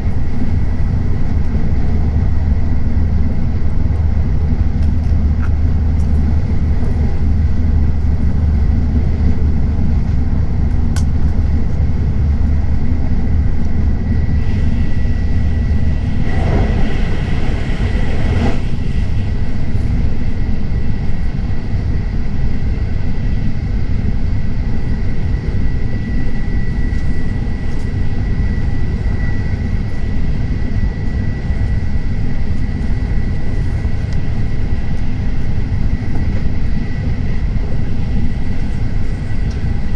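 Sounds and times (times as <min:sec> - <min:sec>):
train rumble and rush: 0:00.0 - 0:39.9.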